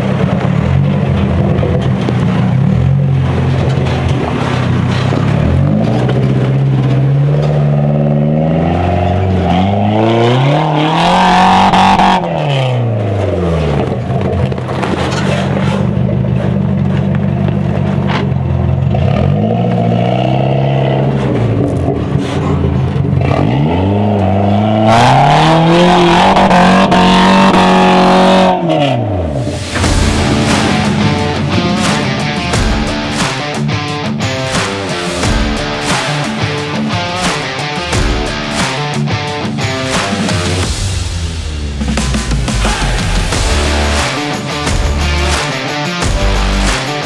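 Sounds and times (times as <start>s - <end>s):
vehicle engine idling and revving: 0.0s - 47.0s.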